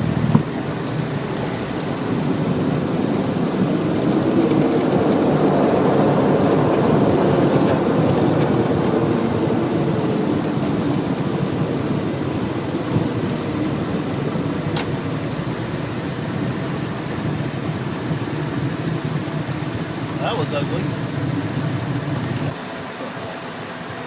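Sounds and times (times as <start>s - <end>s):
jet engines roaring: 0.0s - 24.0s
rushing air: 0.0s - 24.0s.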